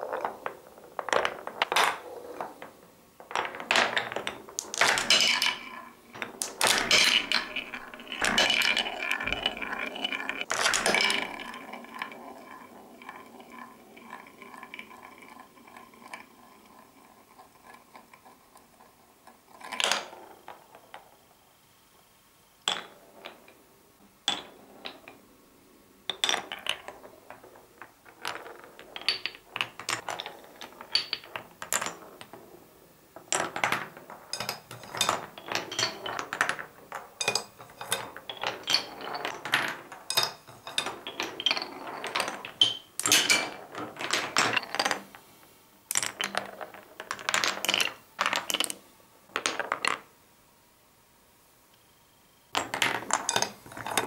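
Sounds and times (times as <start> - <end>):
marbles clacking on wooden blocks: 0.0 - 21.1, 22.6 - 23.6, 26.1 - 32.4, 33.2 - 45.2, 45.9 - 50.1, 52.6 - 54.0.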